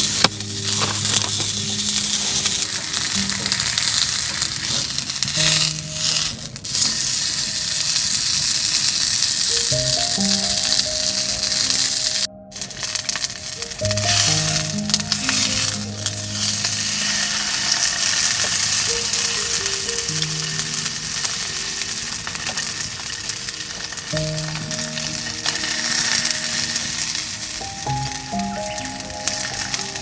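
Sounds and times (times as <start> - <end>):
soft background music: 0.0 - 30.0
steak sizzling in a pan: 0.0 - 30.0.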